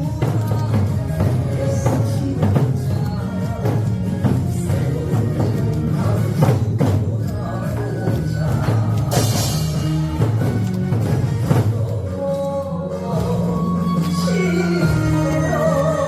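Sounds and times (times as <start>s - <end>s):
drums struck in rhythm: 0.0s - 16.0s
recorded song music: 0.0s - 16.0s.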